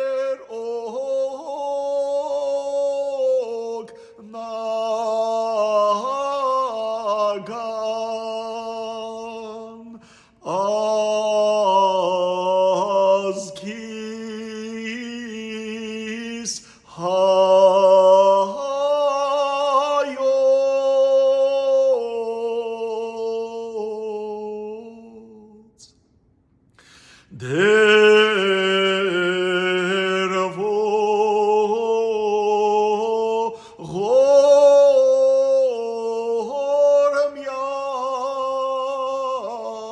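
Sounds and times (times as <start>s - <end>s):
man chanting a hymn: 0.0s - 25.7s, 27.3s - 39.9s.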